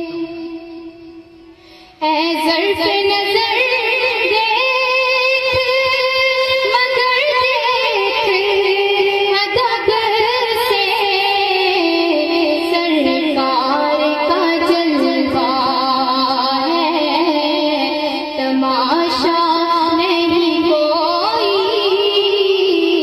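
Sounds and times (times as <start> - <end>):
woman singing devotional song: 0.0 - 23.0.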